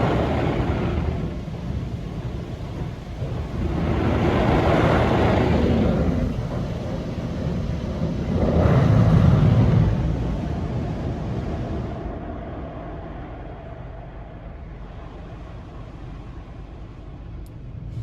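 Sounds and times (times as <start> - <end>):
car wash machinery and water: 0.0 - 18.0.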